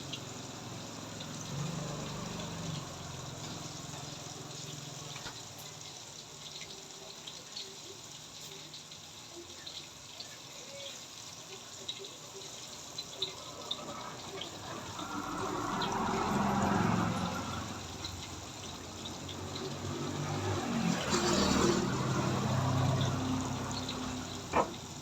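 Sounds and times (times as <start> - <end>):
water running: 0.0 - 25.0.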